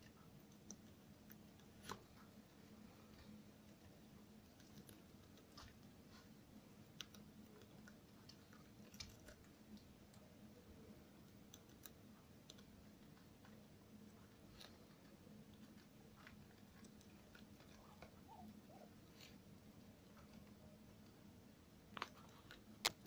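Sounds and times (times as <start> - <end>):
guinea pig chewing lettuce: 0.0 - 21.3
low steady hum: 0.0 - 23.0.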